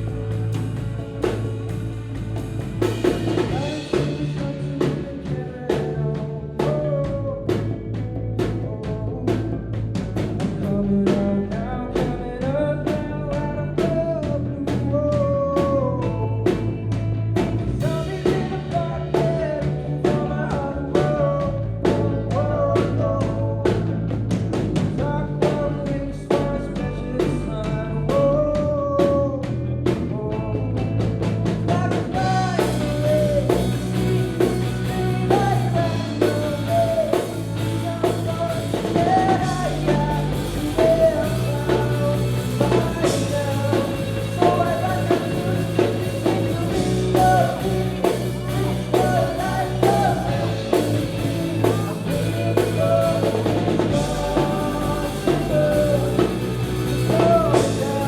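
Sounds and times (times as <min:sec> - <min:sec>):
drum kit with cymbals: 0:00.0 - 0:28.4, 0:29.9 - 0:58.0
live rock band: 0:00.0 - 0:58.0
lead vocal singing: 0:02.8 - 0:58.0.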